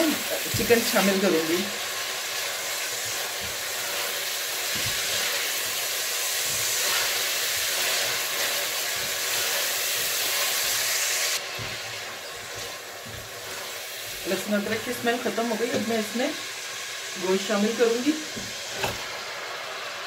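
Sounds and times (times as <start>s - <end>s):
onions sizzling in hot fat: 0.0s - 20.0s.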